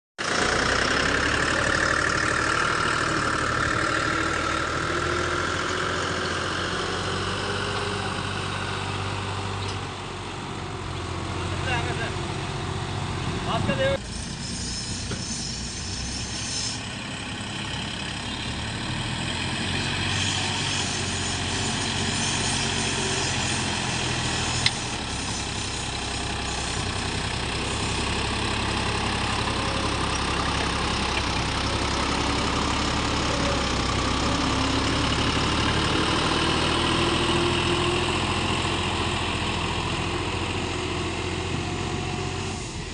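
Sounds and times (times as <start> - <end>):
tractor diesel engine running: 0.2 - 42.9.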